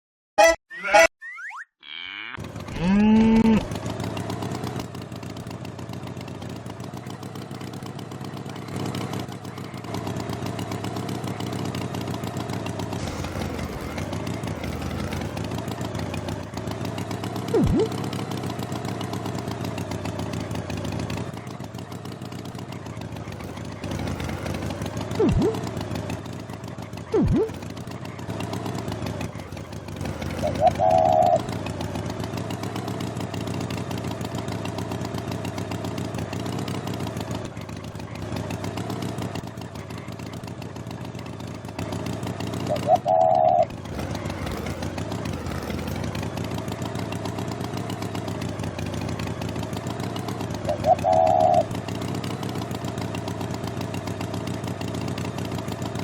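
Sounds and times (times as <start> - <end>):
engine running steadily: 2.4 - 56.0.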